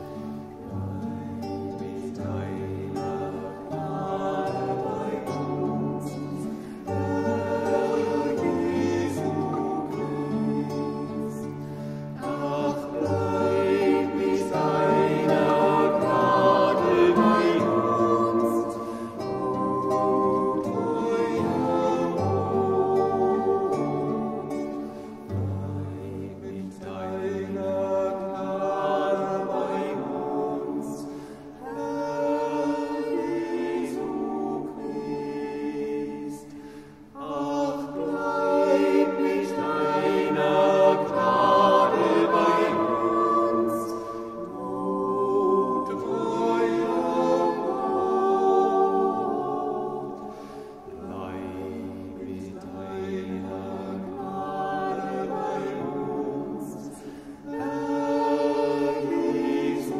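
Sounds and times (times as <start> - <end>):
group singing a chant: 0.0 - 59.9.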